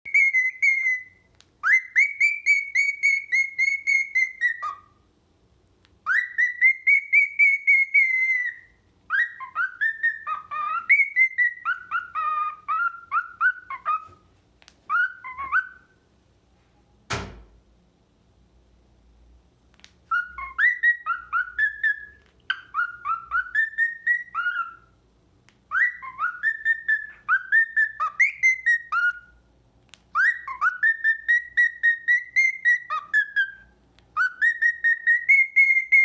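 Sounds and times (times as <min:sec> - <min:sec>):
cockatiel whistling: 0:00.0 - 0:05.0, 0:06.0 - 0:16.0, 0:20.1 - 0:25.0, 0:25.7 - 0:29.4, 0:30.1 - 0:36.0.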